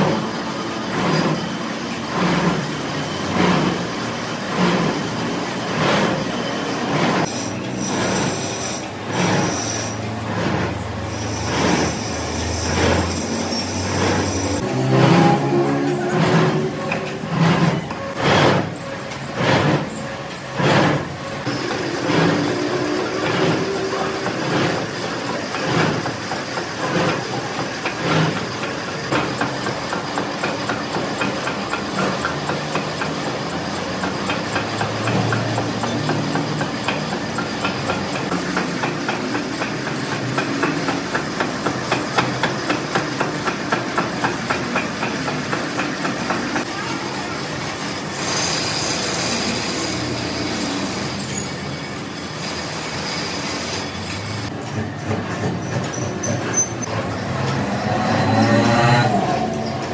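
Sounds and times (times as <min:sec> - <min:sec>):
metalworking machinery clattering: 0:00.0 - 0:59.9.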